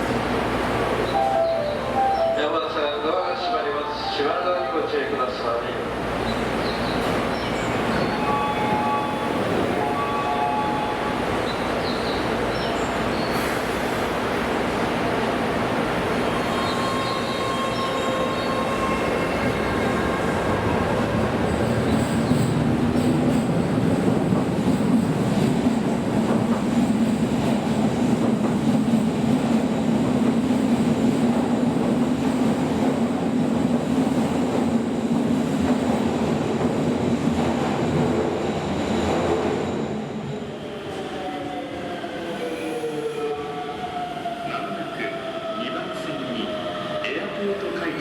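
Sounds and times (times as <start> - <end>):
subway train wheels rumbling: 0.0 - 48.0.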